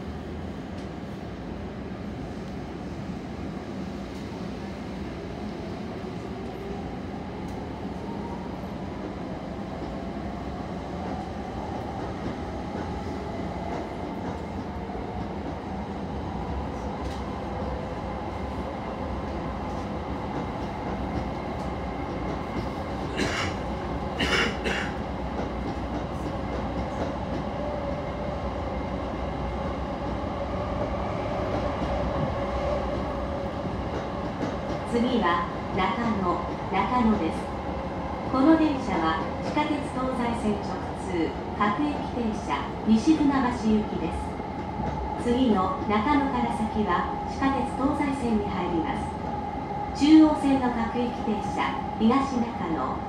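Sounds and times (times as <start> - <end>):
train running noise: 7.4 - 52.9.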